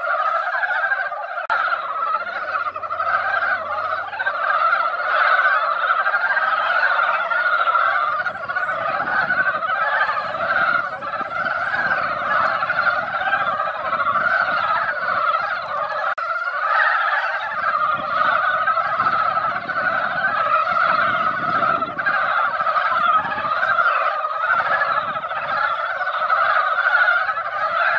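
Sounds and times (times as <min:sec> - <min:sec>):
frog chorus: 0:00.0 - 0:27.9.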